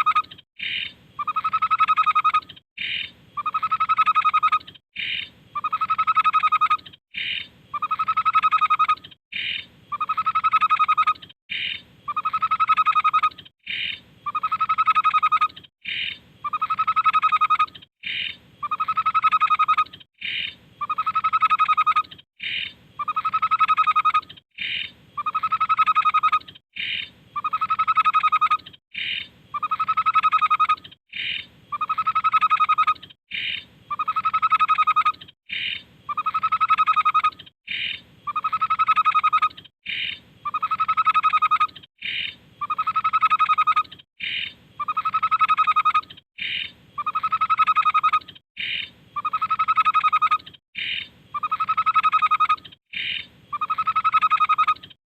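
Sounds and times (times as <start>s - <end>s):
bird singing repeated phrase: 0.0s - 54.8s.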